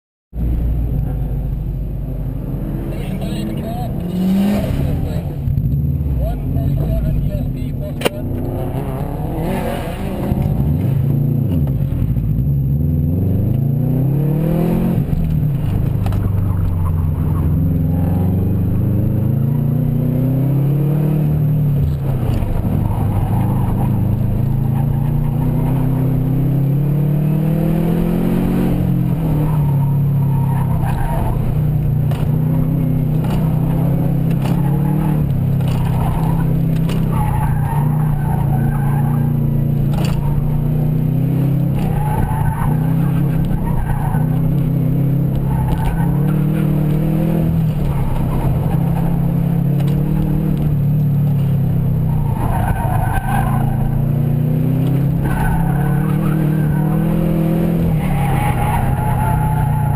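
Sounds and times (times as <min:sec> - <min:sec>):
car engine revving: 0:00.4 - 0:59.9.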